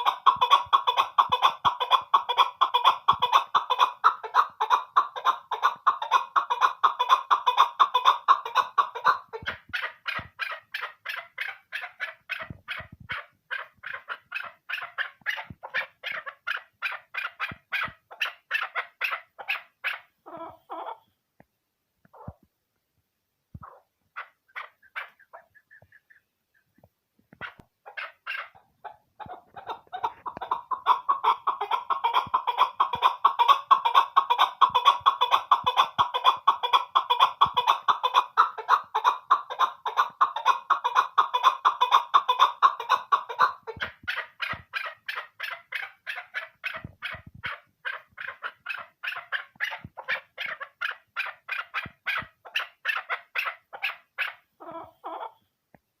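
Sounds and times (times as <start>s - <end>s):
partridge clucking: 0.0s - 20.9s, 23.5s - 54.0s.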